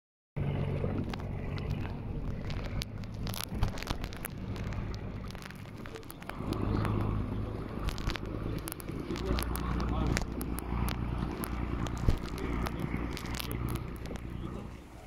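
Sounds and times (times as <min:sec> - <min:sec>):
boat engine humming: 0:00.4 - 0:15.0
wind on microphone: 0:00.4 - 0:15.0
sharp clicks and crackles: 0:00.7 - 0:15.0.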